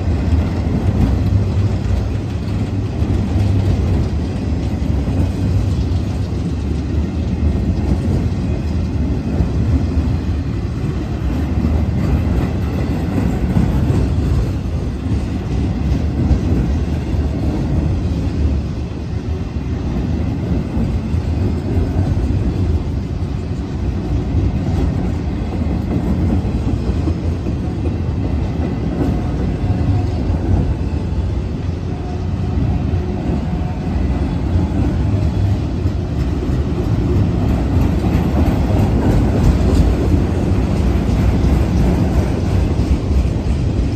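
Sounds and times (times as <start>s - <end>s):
freight car wheels rumbling on rails: 0.0s - 43.9s.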